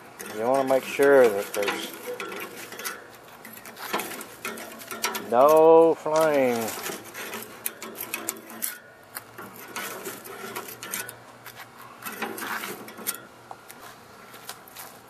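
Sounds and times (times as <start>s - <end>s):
metal poker clinking in charcoal: 0.1s - 13.3s.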